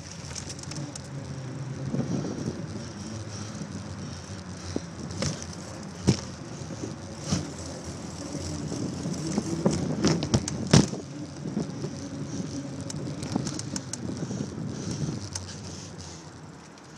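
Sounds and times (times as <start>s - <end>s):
bicycle frame rattling: 0.0s - 16.9s
bicycle tyres rolling on pavement: 0.0s - 16.9s
wind noise: 0.0s - 16.9s.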